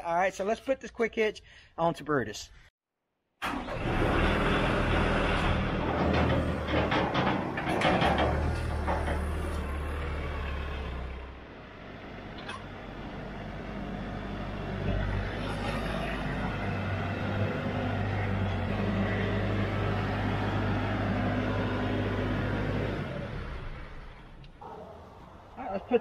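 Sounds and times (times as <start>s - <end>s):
tractor diesel engine running: 3.4s - 24.6s.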